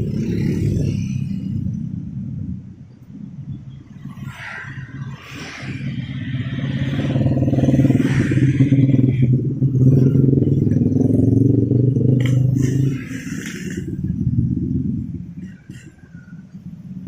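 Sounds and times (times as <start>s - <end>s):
vehicle engine running close by: 0.0s - 2.4s, 5.2s - 17.0s
street noise: 0.0s - 17.0s.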